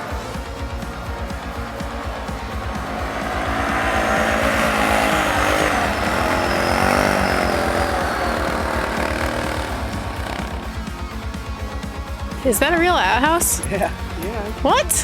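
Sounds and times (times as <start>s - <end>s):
tracked vehicle engine driving past: 0.0s - 14.5s.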